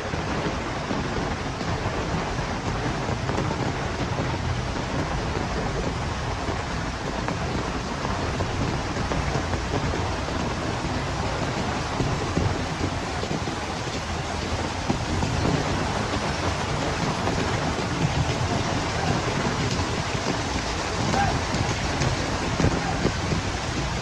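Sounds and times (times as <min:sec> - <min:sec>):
heavy rain: 0:00.0 - 0:24.0
wind rumble on microphone: 0:00.0 - 0:24.0.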